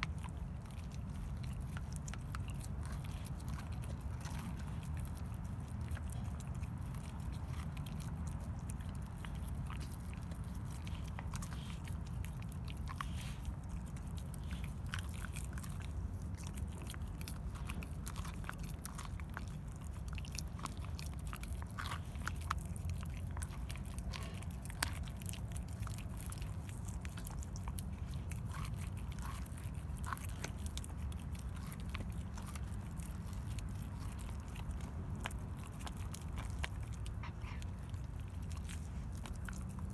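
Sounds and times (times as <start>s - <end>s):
dog chewing on bone: 0.0s - 39.9s
steady low hum: 0.0s - 39.9s.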